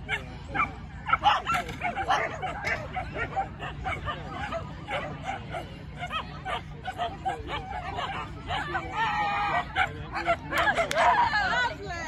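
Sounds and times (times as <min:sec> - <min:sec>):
dogs barking and yipping: 0:00.0 - 0:11.2.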